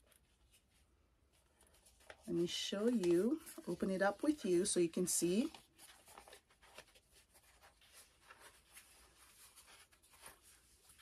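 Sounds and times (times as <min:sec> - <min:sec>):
paper and card box rustling: 0:01.4 - 0:11.0.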